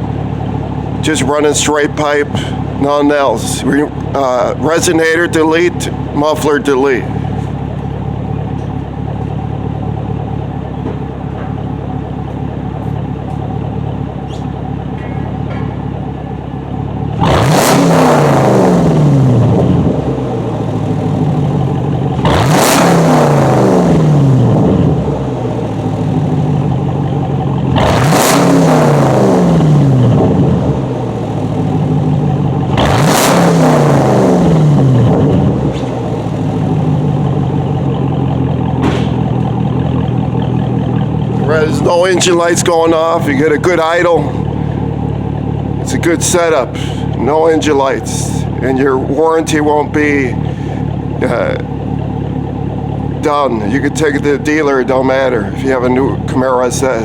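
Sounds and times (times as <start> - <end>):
car engine idling: 0.0 - 57.0
car engine revving: 0.0 - 57.0.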